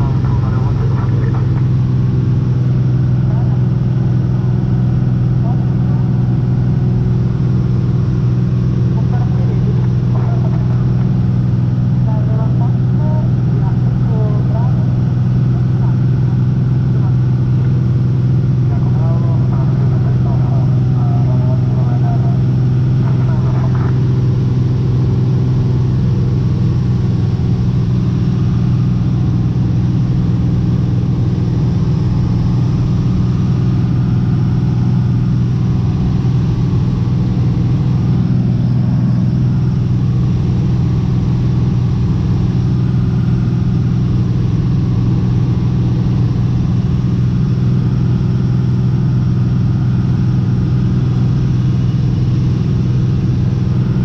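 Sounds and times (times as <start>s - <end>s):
aircraft engine and propeller droning: 0.0s - 54.0s.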